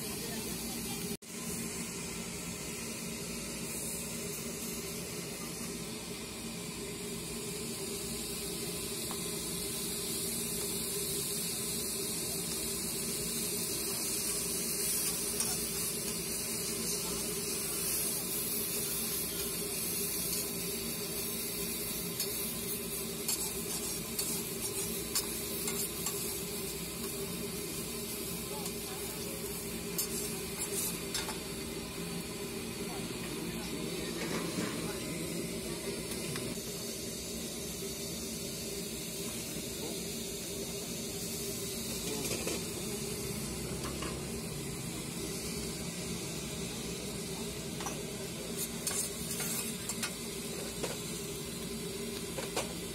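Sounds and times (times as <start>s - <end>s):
food sizzling on griddle: 0.0s - 52.9s.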